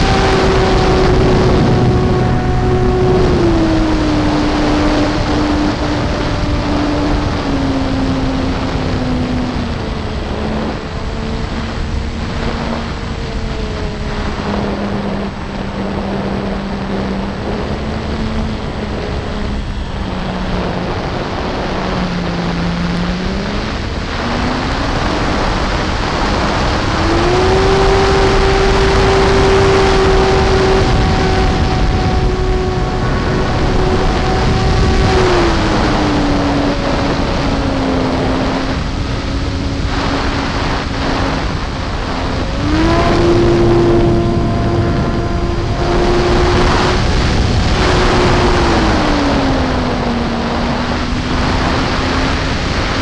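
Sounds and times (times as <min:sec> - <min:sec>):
model plane electric motor whine: 0:00.0 - 0:53.0
wind rushing on microphone: 0:00.0 - 0:53.0.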